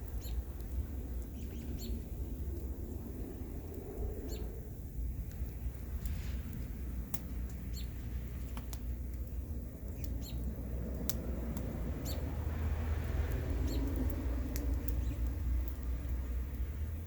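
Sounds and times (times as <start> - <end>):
bonfire crackling and popping: 0.0 - 17.0
wind rumble on microphone: 0.0 - 17.0.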